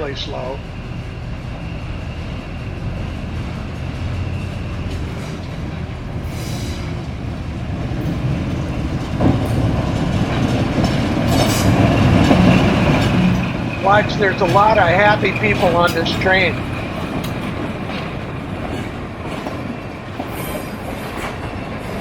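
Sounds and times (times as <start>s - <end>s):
train wheels clacking over rail joints: 3.3s - 22.0s.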